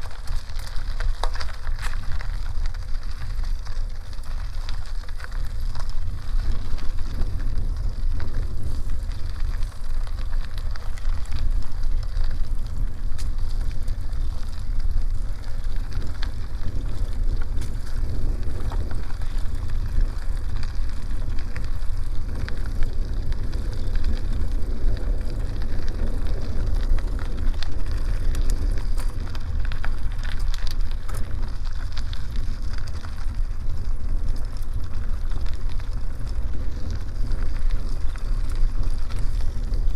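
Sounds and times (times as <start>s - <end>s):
bicycle tyres rolling on dirt: 0.0s - 39.9s
wind buffeting microphone: 0.0s - 39.9s.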